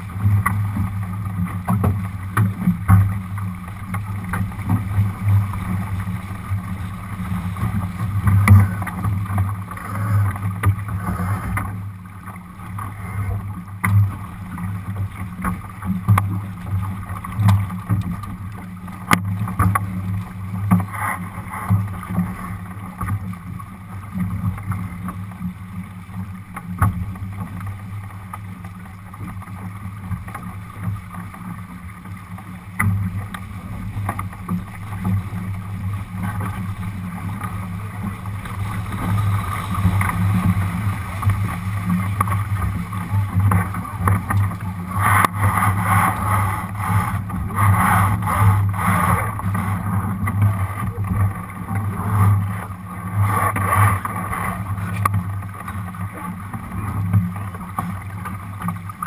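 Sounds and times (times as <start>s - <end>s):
water rushing along hull: 0.0s - 59.0s.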